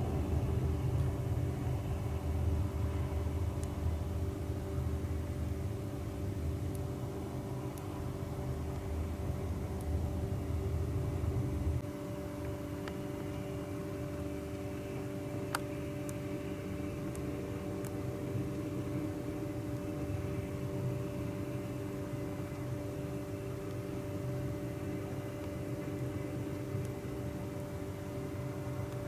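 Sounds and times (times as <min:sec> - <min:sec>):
distant jet engines idling: 0:00.0 - 0:29.0.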